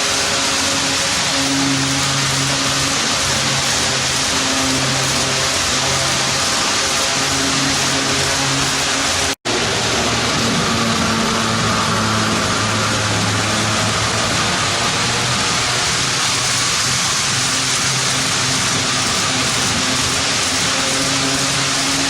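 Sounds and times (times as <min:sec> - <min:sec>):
model train wheels on rail: 0:00.0 - 0:22.0.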